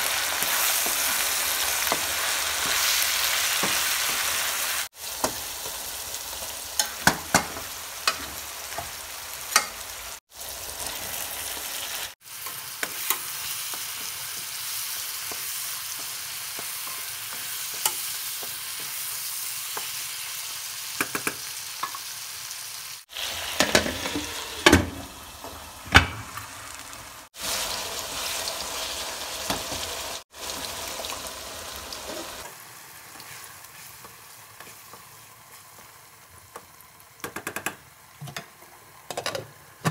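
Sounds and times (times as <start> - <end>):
food sizzling in hot oil: 0.0 - 39.8.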